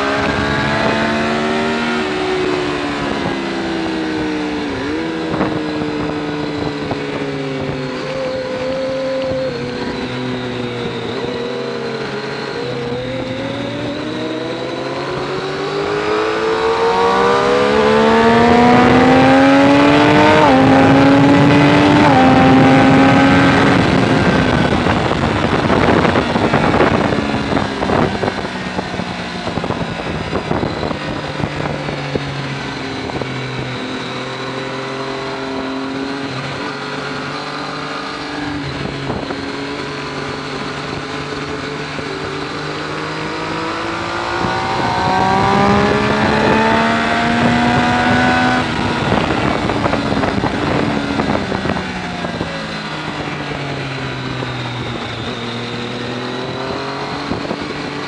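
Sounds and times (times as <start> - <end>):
motorcycle engine revving with gear shifts: 0.0 - 58.0
wind rush on microphone: 0.0 - 58.0.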